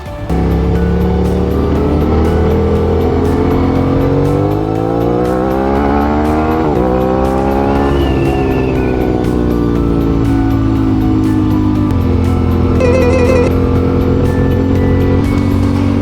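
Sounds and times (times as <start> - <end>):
motorcycle engine accelerating: 0.2 - 16.0.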